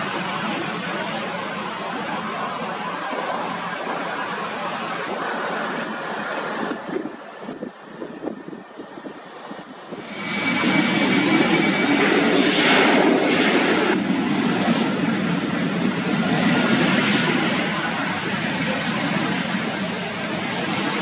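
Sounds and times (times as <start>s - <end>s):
jet airliner engine rumble: 0.0s - 21.0s.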